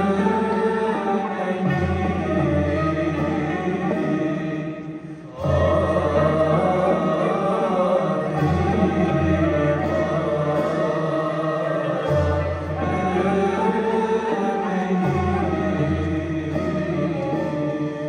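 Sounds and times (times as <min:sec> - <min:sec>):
voices chanting together: 0:00.0 - 0:18.0.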